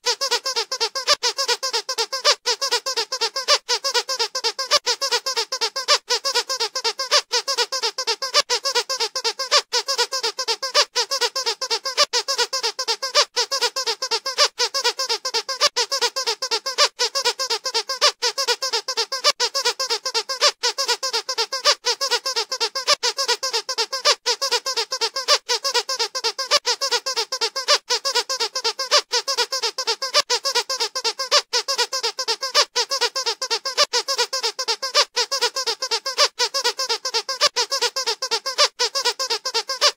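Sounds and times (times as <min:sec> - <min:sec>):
squeaky dog toy: 0:00.0 - 0:39.9.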